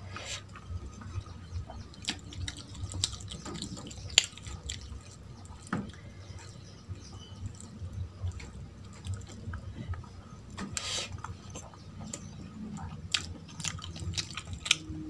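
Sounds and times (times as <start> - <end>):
fingers squishing rice: 0.0 - 15.0
wet chewing and mouth smacks: 0.2 - 15.0.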